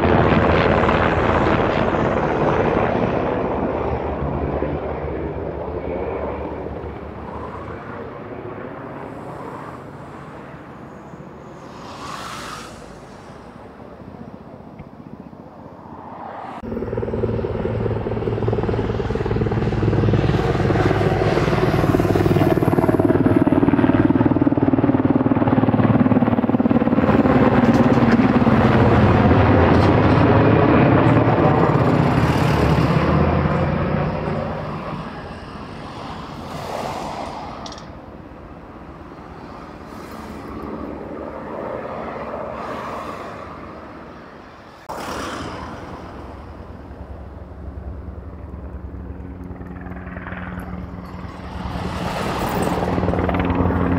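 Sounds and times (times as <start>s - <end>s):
helicopter flying past: 0.0s - 53.9s.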